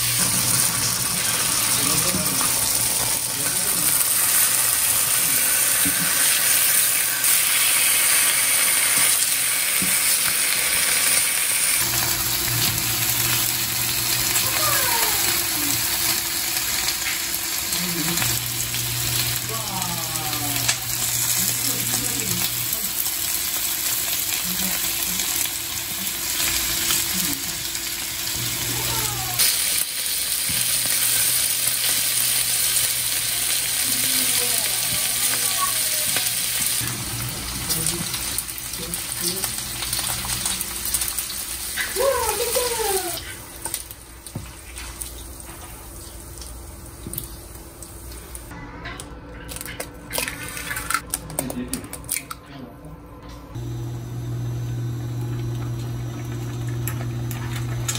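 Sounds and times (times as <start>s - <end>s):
meat sizzling on a grill pan: 0.0s - 48.5s.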